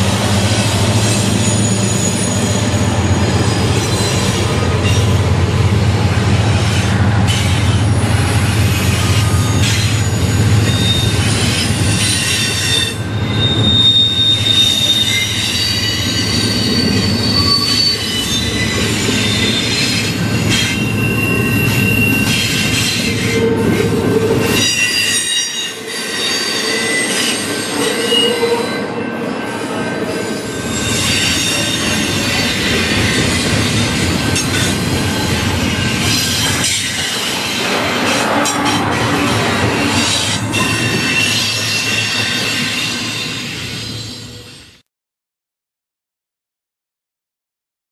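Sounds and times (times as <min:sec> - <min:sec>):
freight train wheels rumbling: 0:00.0 - 0:44.8
wheels squealing: 0:00.5 - 0:05.2, 0:06.8 - 0:44.4.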